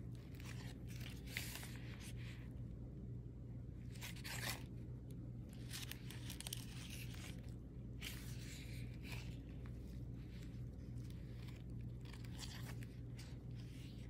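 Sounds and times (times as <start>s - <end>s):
paper pages rustling: 0.0s - 2.5s, 3.8s - 4.8s, 5.4s - 14.0s
steady low hum: 0.0s - 14.0s.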